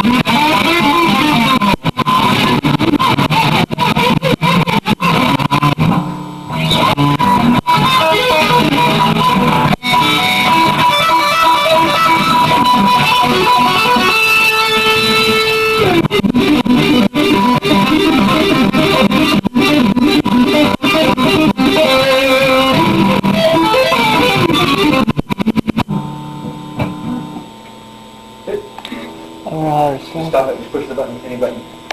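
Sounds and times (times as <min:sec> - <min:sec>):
electric guitar through effects: 0:00.0 - 0:29.4.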